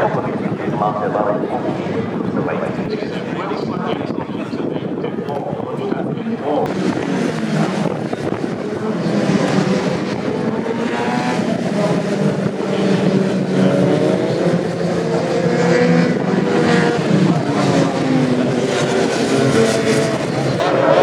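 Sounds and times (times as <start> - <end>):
racing motorbike engines revving: 0.0 - 21.0.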